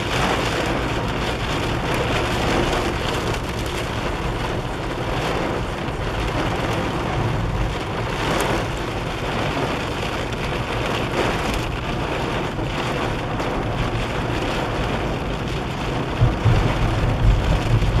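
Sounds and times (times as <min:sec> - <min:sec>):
car rumbling on a wet road: 0:00.0 - 0:18.0
rain drumming on a car roof: 0:00.0 - 0:18.0.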